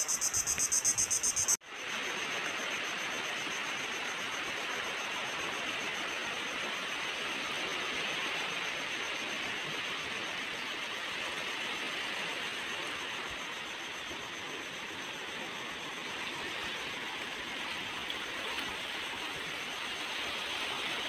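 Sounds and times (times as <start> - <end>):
faint cricket trill: 0.0 - 21.0.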